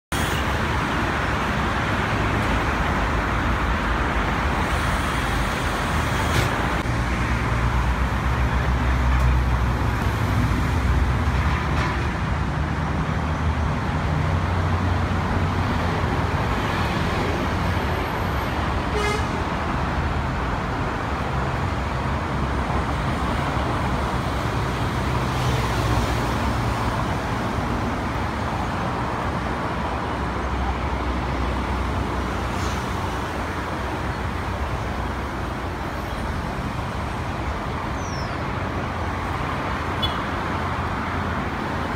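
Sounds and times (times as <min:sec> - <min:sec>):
city traffic rumble: 0:00.1 - 0:41.9.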